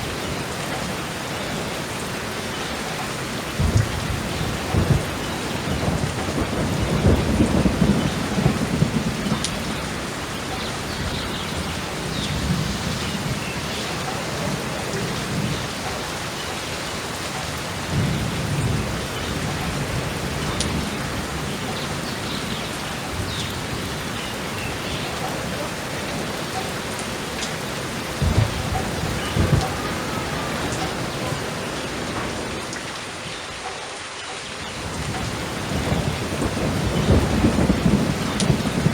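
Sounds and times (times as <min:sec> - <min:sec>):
low thunder rumble: 0:00.0 - 0:33.5, 0:34.8 - 0:38.9
steady rain: 0:00.0 - 0:38.9
sharp thunder claps: 0:03.5 - 0:16.4, 0:17.3 - 0:33.4, 0:34.8 - 0:38.9.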